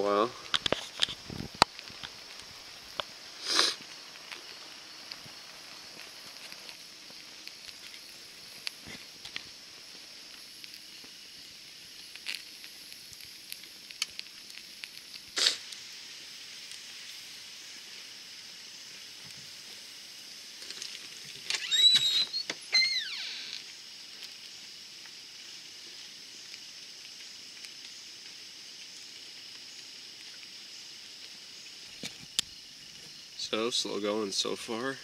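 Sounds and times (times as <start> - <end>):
pops and crackles: 0.0 - 33.6
flame hissing: 0.0 - 35.0
flame sputtering: 0.0 - 35.0.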